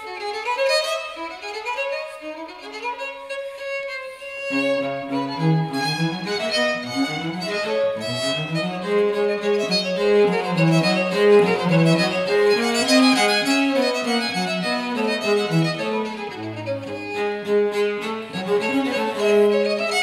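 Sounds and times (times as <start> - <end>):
bowed violin: 0.0 - 20.0
cello: 0.0 - 20.0.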